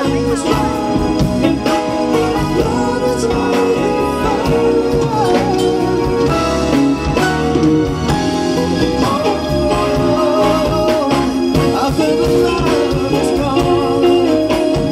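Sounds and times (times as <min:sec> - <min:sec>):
band playing soul ballad: 0:00.0 - 0:14.9.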